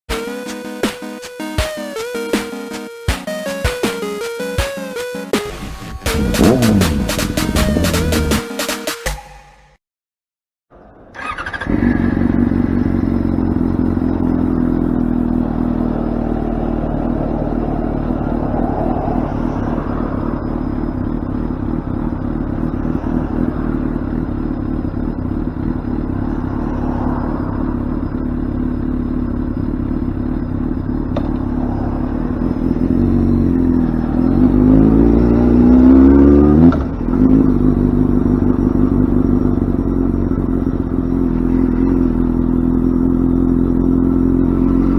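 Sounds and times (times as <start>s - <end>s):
motorcycle engine idling and revving: 5.4s - 8.5s, 10.8s - 44.9s.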